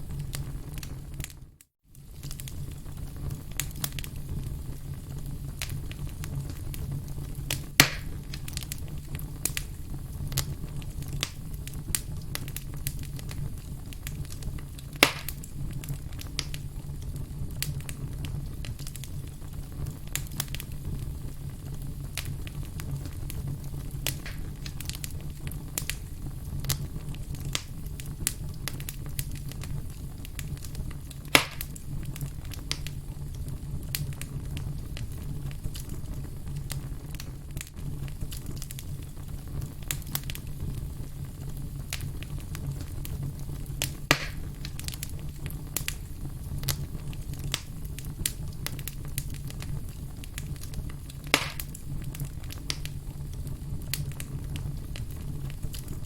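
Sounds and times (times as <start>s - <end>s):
campfire crackling: 0.0s - 56.0s
loud fire pops: 0.0s - 56.0s.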